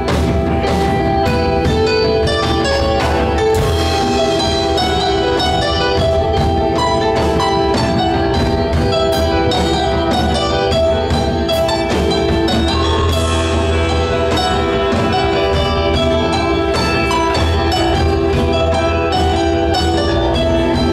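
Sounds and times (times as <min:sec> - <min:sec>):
rock band playing: 0:00.0 - 0:20.9.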